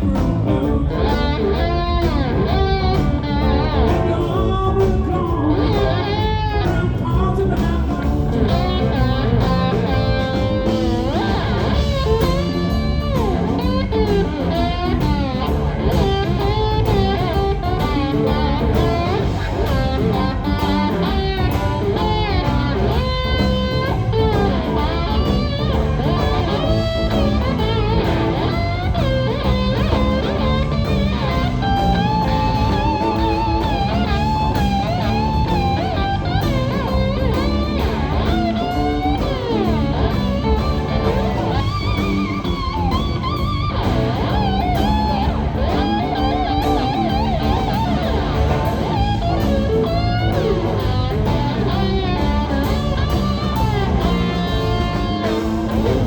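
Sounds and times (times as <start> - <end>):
blues-rock band playing live: 0.0 - 56.0
electric guitar lead bends: 0.0 - 56.0.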